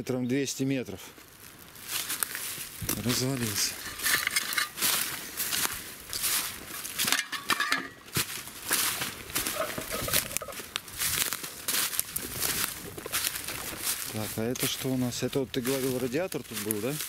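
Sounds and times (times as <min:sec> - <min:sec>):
footsteps crunching dry leaves: 0:01.1 - 0:17.0.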